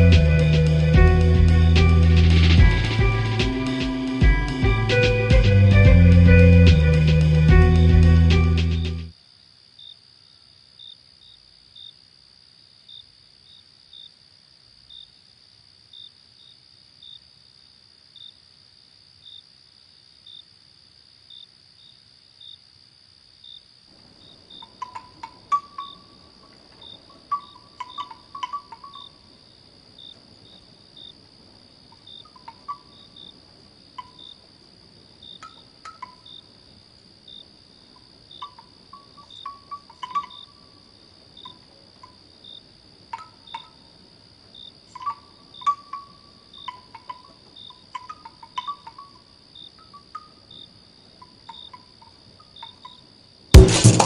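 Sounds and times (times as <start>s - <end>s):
background hiss: 0.0s - 54.0s
cricket chirps: 0.0s - 54.0s
insects droning: 0.0s - 54.0s.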